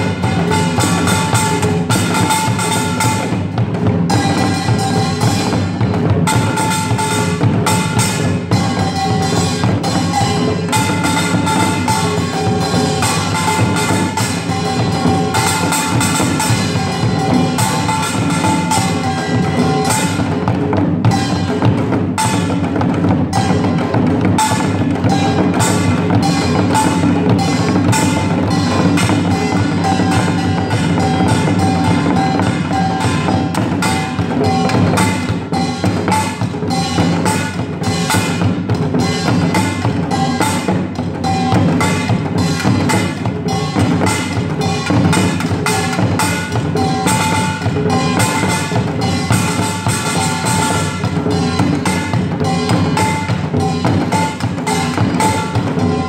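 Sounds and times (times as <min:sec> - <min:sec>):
fast drumming: 0:00.0 - 0:56.0
metal gongs ringing: 0:00.0 - 0:56.0.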